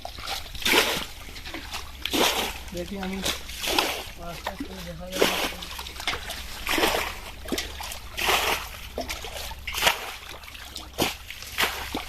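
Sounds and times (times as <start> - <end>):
hands splashing in pond water: 0.0 - 12.0.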